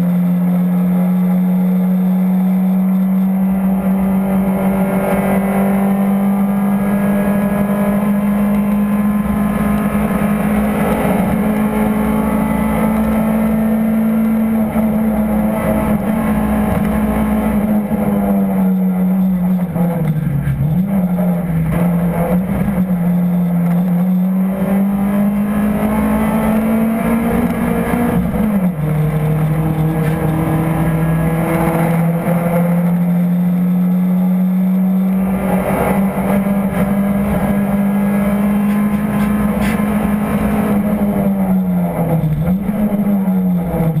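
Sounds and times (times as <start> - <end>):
car engine revving hard: 0.0 - 44.0.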